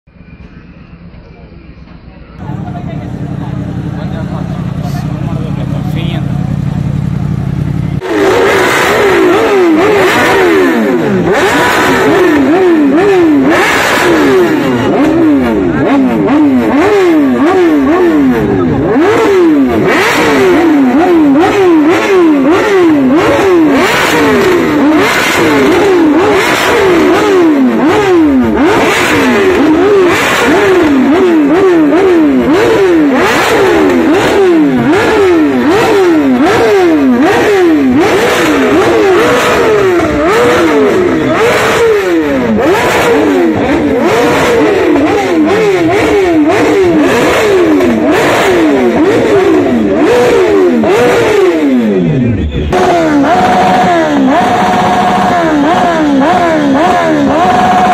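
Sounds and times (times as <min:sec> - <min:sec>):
motorcycle engine revving: 0:01.7 - 0:57.9.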